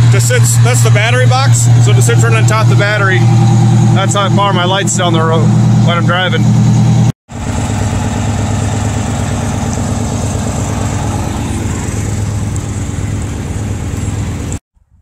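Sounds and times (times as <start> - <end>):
diesel engine running steadily: 0.0 - 14.6.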